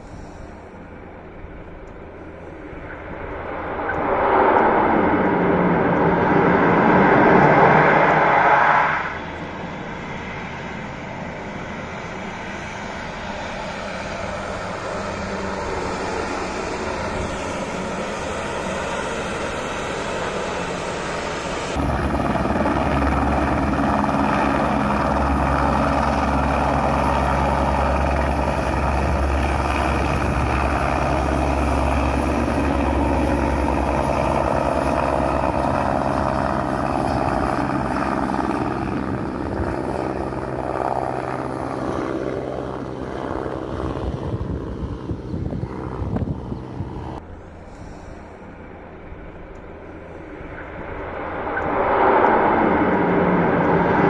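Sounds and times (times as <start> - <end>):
helicopter rotor and turbine: 0.0 - 54.0
propeller plane droning: 0.0 - 54.0.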